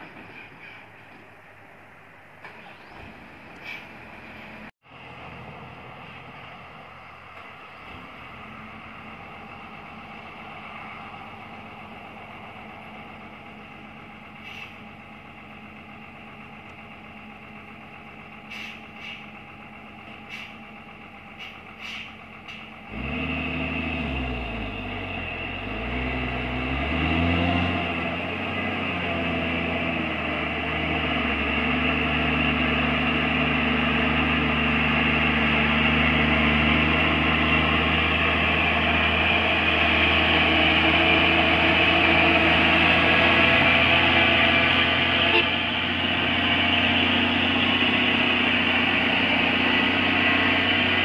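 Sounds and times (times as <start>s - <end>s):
diesel truck engine revving: 4.0s - 51.0s.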